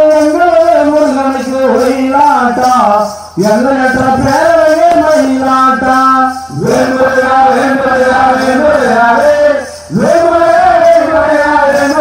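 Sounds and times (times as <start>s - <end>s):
man singing folk song: 0.0s - 12.0s.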